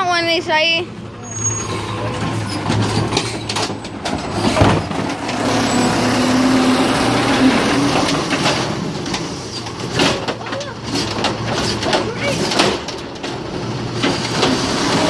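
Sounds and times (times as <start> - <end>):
diesel garbage truck running: 0.0 - 15.0.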